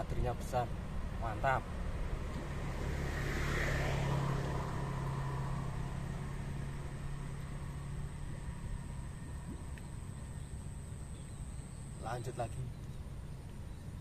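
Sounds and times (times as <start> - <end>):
motor vehicle passing by: 0.0 - 14.0.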